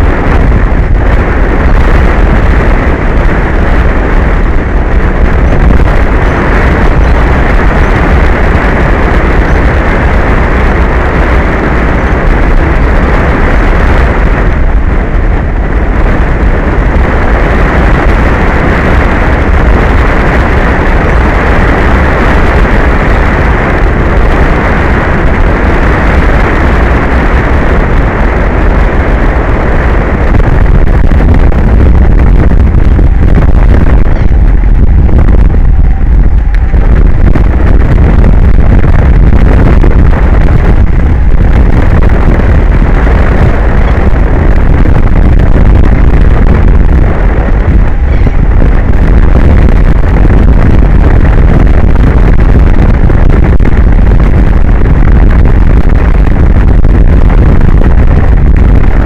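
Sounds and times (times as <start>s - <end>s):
strong wind buffeting microphone: 0.0s - 59.0s.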